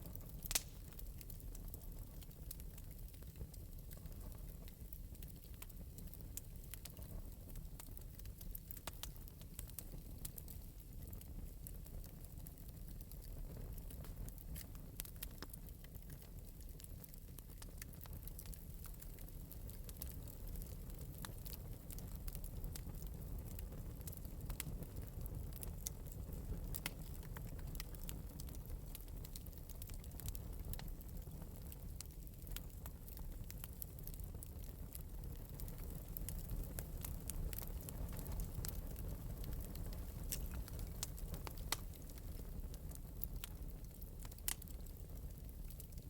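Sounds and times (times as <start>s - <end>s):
fire crackling: 0.0s - 46.0s
fire popping: 0.0s - 46.0s
low fire rumble: 0.0s - 46.0s.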